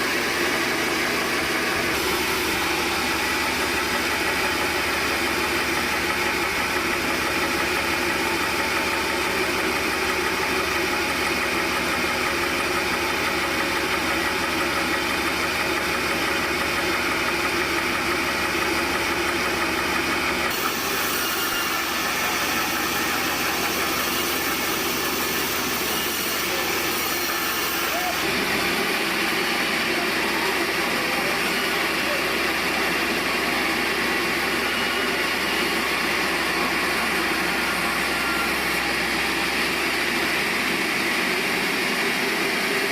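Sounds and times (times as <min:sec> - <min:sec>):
band saw running: 0:00.0 - 0:42.9.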